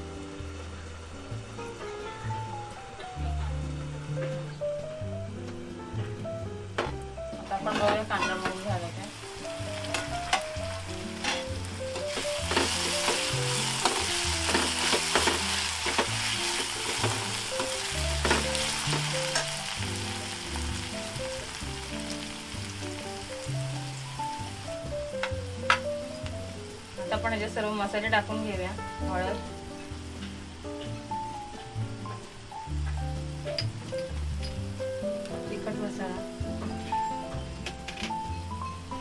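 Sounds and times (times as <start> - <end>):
onion and tomato sizzling in oil: 0.0 - 39.0.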